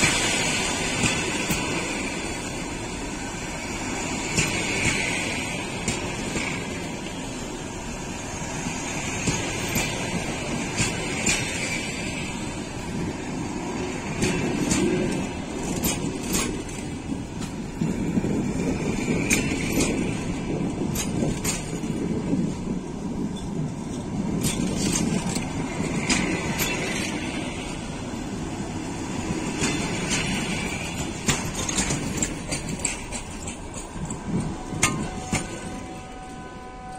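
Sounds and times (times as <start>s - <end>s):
train wheels rumbling on rails: 0.0s - 36.9s
wheels clacking over rail joints: 0.0s - 36.9s.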